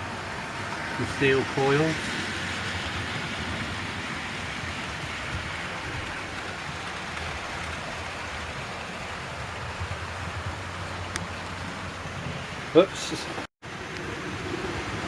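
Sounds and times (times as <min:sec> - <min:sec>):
model trains whirring on track: 0:00.0 - 0:15.0.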